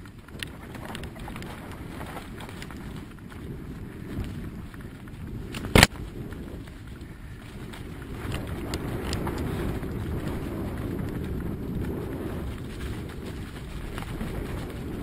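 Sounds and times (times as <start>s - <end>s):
bike tyre rumble on dirt: 0.0s - 15.0s
wind on microphone: 0.0s - 15.0s.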